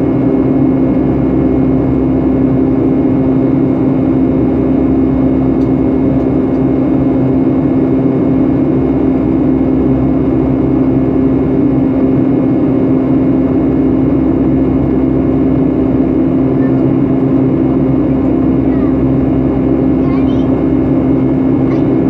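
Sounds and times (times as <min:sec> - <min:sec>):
jet engine and airflow drone: 0:00.0 - 0:22.0
steady low hum: 0:00.0 - 0:22.0.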